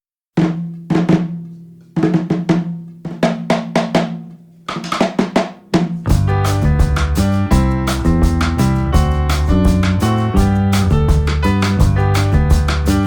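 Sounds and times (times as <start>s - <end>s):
drum fills: 2.0s - 13.0s.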